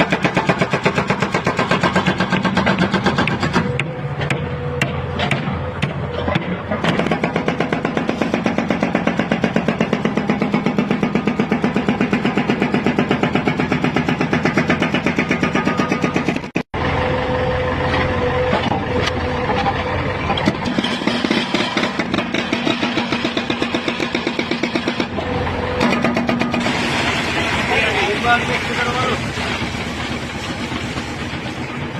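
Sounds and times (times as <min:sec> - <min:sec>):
diesel engine pulsing: 0:00.0 - 0:31.9.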